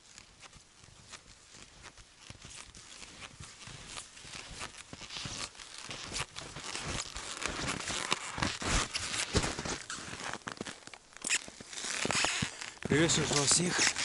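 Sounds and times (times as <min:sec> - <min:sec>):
skis crunching through snow: 0:00.0 - 0:14.0.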